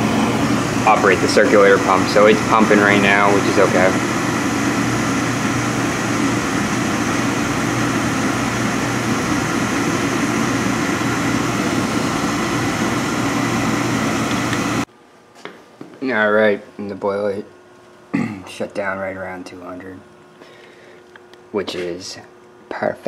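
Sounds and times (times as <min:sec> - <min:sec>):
oil burner running: 0:00.0 - 0:15.6, 0:16.4 - 0:22.8.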